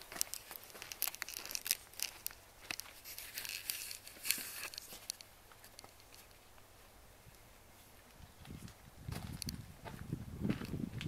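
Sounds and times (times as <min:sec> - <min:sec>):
crackling and rustling: 0:00.0 - 0:06.7, 0:07.3 - 0:10.0.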